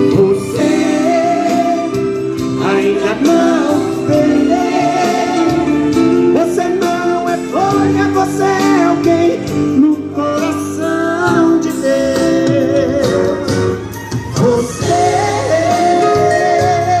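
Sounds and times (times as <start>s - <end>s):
instrumental accompaniment: 0.0s - 17.0s
men singing gospel song: 0.0s - 17.0s.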